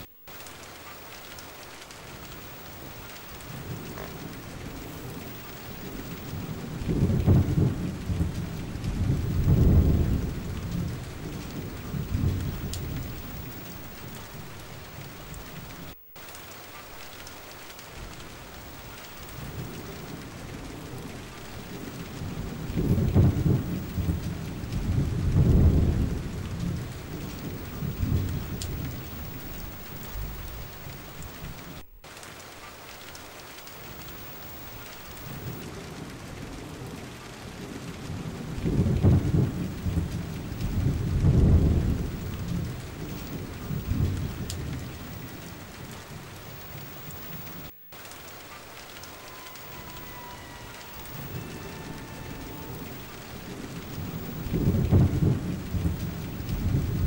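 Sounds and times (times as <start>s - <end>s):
steady rain: 0.0s - 57.0s
rolling thunder: 2.0s - 16.0s, 17.0s - 31.9s, 33.5s - 57.0s.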